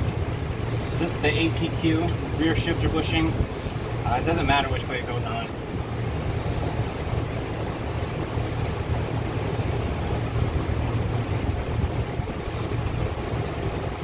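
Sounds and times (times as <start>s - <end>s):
low rumbling and hissing noise: 0.0s - 14.0s.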